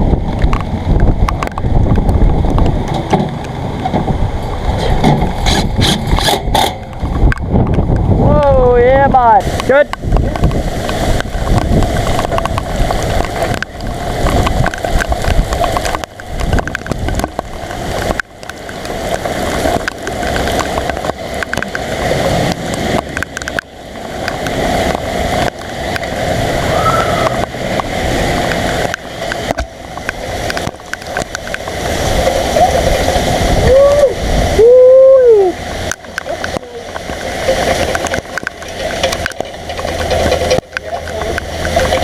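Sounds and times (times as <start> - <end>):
heavy rain pouring: 0.0 - 42.0
wind buffeting microphone: 0.0 - 42.0.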